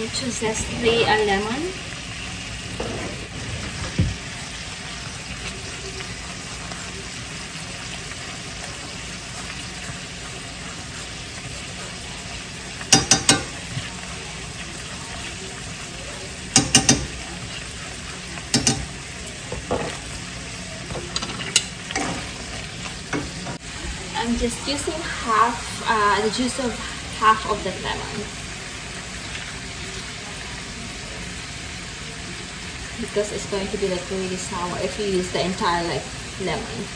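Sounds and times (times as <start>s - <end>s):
shrimp sizzling in pan: 0.0s - 36.9s.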